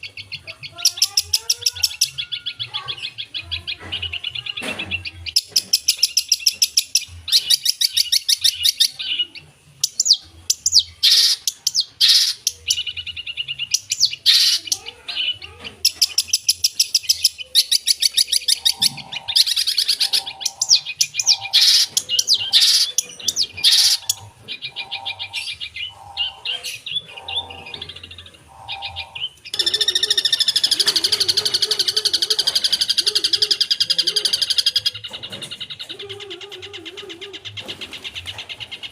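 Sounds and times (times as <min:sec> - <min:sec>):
bird singing trills and chirps: 0:00.0 - 0:38.9.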